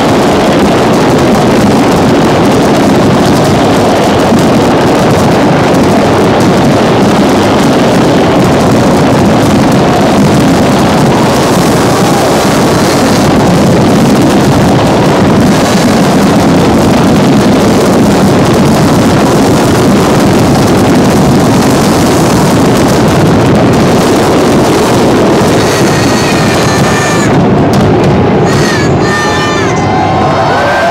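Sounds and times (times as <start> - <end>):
fireworks barrage rumbling: 0.0 - 30.9.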